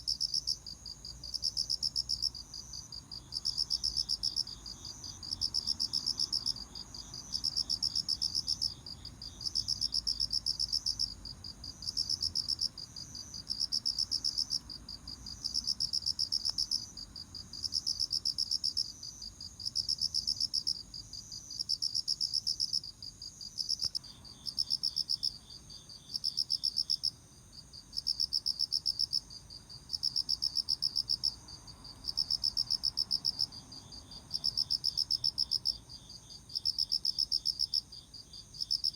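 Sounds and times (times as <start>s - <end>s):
faint low cricket chirping: 0.0s - 38.9s.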